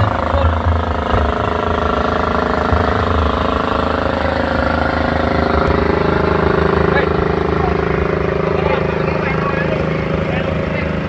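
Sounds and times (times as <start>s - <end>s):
engine running with low pulsing: 0.0s - 11.0s.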